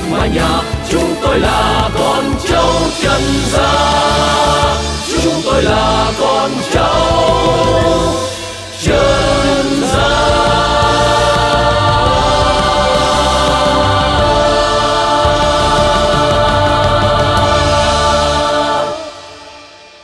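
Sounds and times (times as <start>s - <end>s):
backing track music: 0.0s - 20.0s
choir singing sustained notes: 0.0s - 20.0s.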